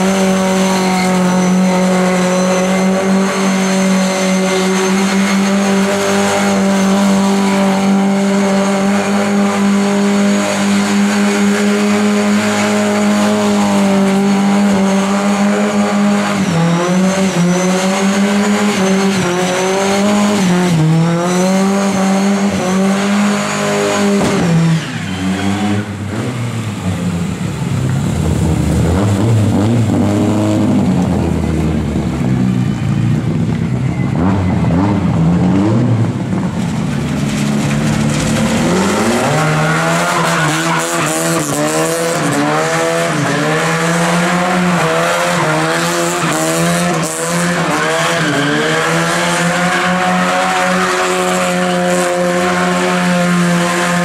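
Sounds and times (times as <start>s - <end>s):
tyre squealing on tarmac: 0.0s - 26.9s, 36.8s - 54.0s
car engine revving: 0.0s - 54.0s.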